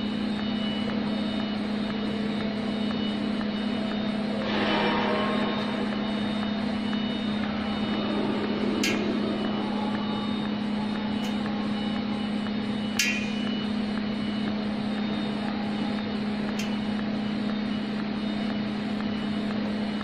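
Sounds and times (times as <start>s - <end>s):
welding machine hum and hiss: 0.0s - 20.0s.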